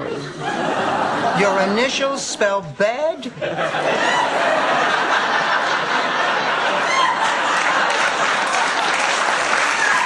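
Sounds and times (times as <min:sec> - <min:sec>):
studio audience laughing: 0:00.0 - 0:02.2, 0:03.2 - 0:10.0.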